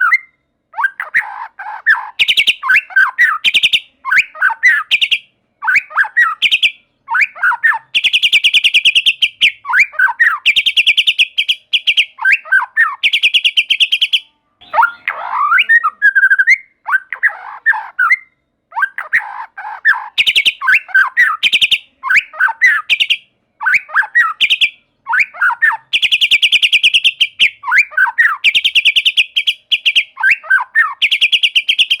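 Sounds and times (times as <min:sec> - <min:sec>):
bird singing whistled phrases: 0:00.0 - 0:32.0.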